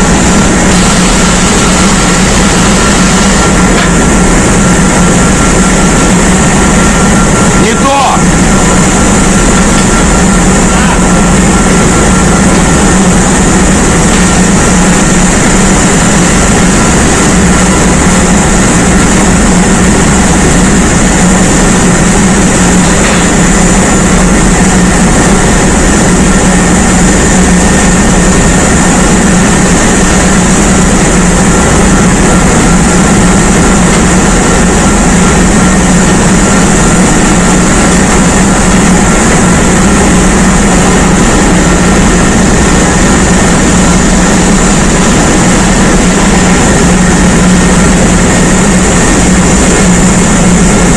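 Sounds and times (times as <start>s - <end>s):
engine room machinery running: 0.0s - 50.9s.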